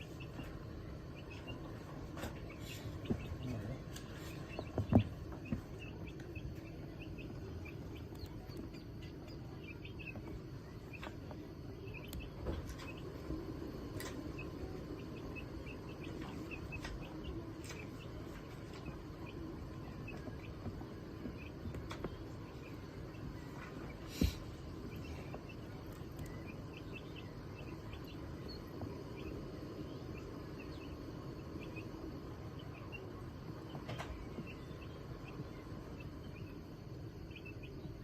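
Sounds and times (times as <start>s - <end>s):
ducks peeping and chirping: 0.0s - 38.0s
low steady background noise: 0.0s - 38.0s.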